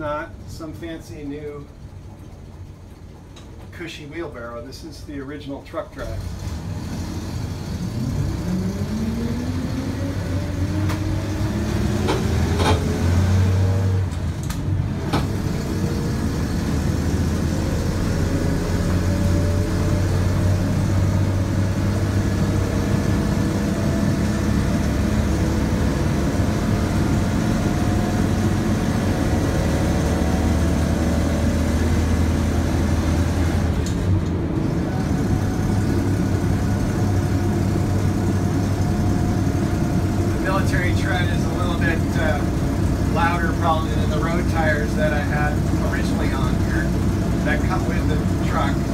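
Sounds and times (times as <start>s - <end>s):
truck engine whining: 5.7s - 48.9s.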